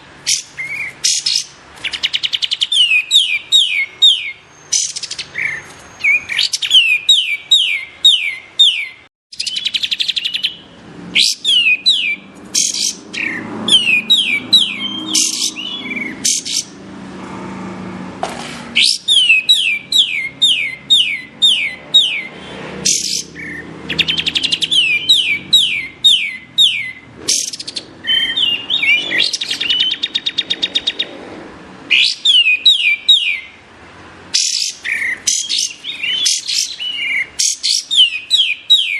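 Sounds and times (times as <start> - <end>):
songbird singing high notes: 0.0 - 16.8, 18.8 - 31.1, 31.9 - 33.6, 34.4 - 38.9.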